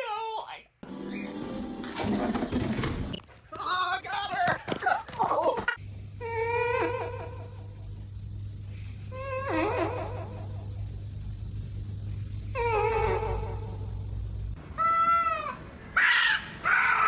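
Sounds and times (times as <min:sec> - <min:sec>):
low background hum: 0:00.1 - 0:17.0.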